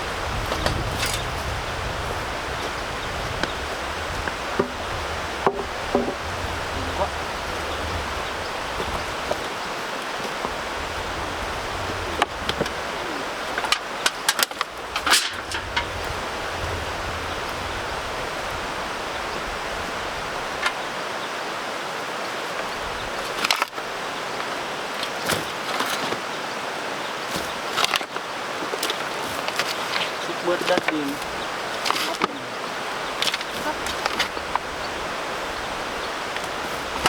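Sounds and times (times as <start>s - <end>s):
steady outdoor hiss: 0.0s - 37.0s.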